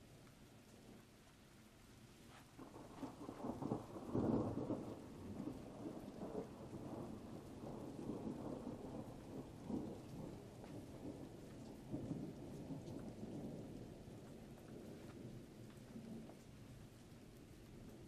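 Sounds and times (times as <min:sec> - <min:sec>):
rolling thunder: 0:02.6 - 0:18.0.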